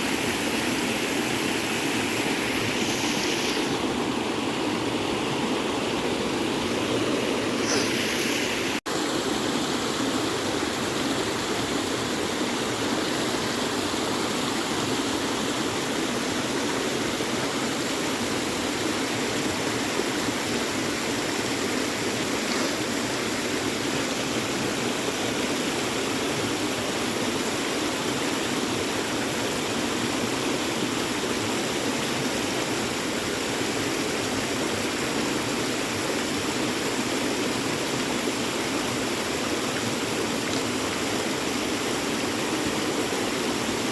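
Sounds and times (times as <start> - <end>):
creek water rushing and babbling: 0.0 - 43.9.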